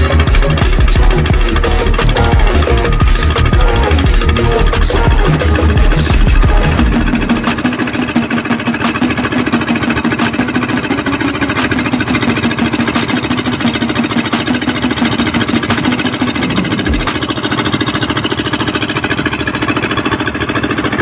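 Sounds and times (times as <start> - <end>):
heavy equipment engine idling: 0.0 - 21.0.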